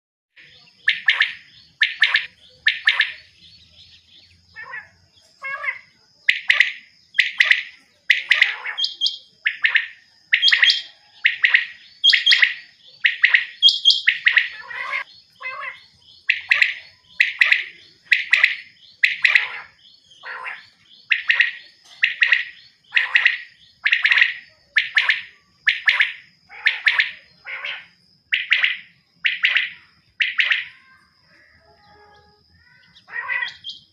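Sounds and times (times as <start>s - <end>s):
quail calling: 0.4s - 33.9s.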